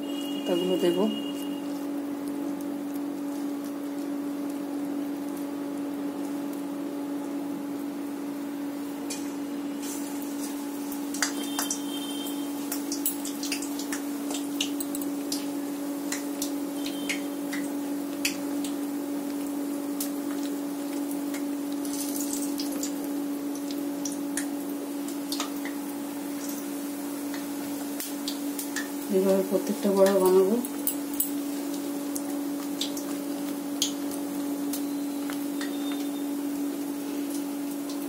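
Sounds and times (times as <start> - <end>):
oil crackling and popping: 0.0 - 38.0.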